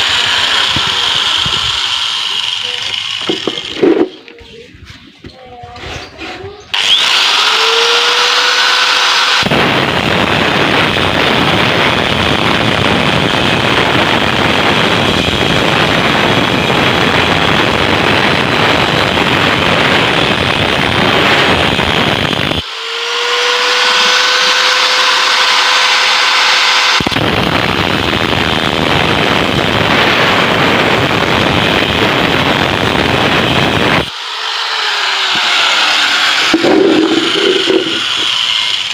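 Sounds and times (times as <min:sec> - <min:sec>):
angle grinder cutting steel: 0:00.0 - 0:04.3, 0:06.7 - 0:38.9
angle grinder whining freely: 0:00.0 - 0:04.4, 0:06.7 - 0:38.9.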